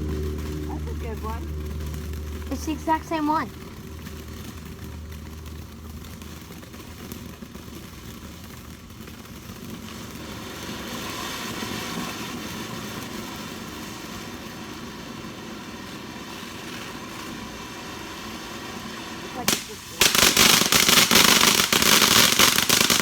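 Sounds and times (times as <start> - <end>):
firework fountain hissing: 0.0 - 23.0.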